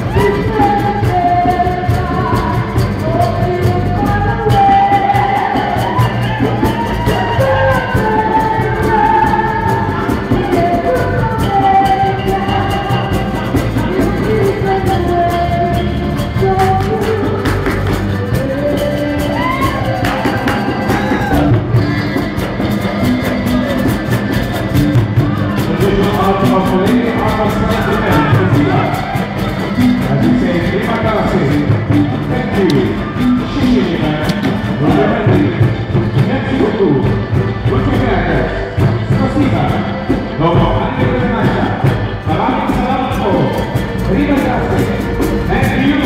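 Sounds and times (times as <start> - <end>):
live pop-rock band: 0.0 - 46.0
person singing: 0.0 - 46.0.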